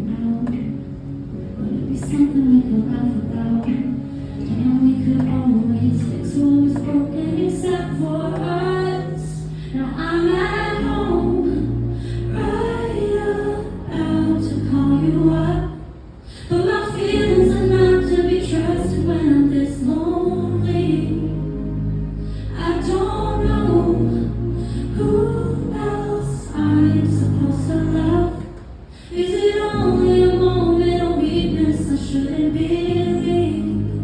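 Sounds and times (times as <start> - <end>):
woman singing: 0.0 - 21.6, 22.5 - 34.0.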